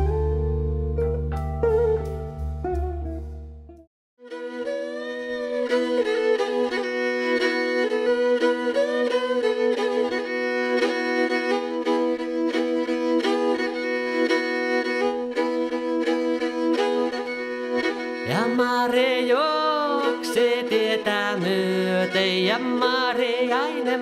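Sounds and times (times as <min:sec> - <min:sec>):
bowed lyre playing folk tune: 0:00.0 - 0:23.9.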